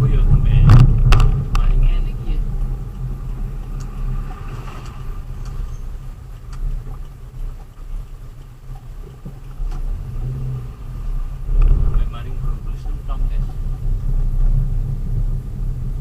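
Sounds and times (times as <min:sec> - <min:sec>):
delivery vehicle rumbling along road: 0:00.0 - 0:16.0.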